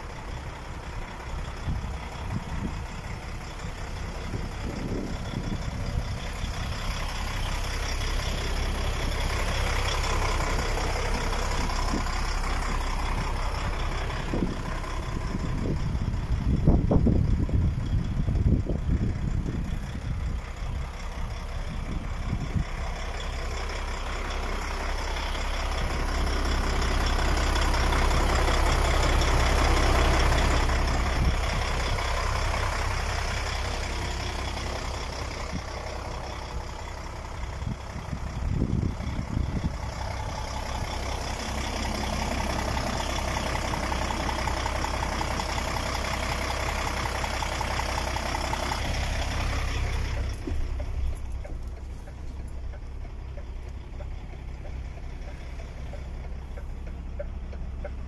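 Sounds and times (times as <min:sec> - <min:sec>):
low rumble: 0:00.0 - 0:58.0
truck diesel engine idling: 0:00.0 - 0:58.0.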